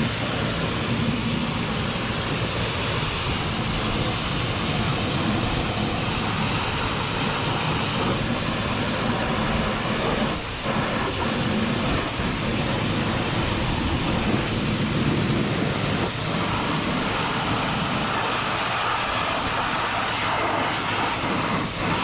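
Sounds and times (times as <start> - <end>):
pressure washer spraying: 0.0 - 22.0.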